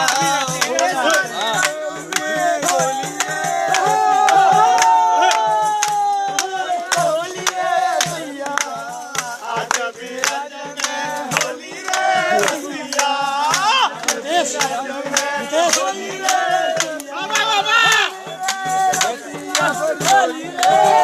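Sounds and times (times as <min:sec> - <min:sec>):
group singing and shouting: 0:00.0 - 0:21.0.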